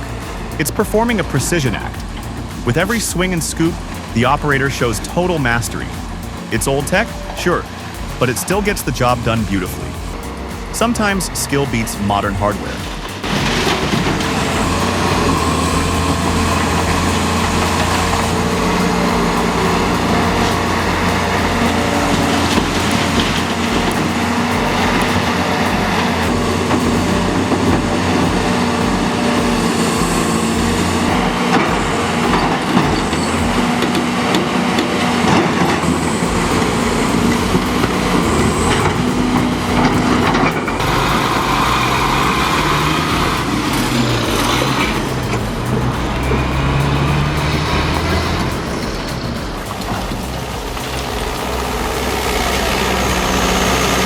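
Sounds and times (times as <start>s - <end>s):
earthmoving machine engine drone: 0.0s - 54.0s.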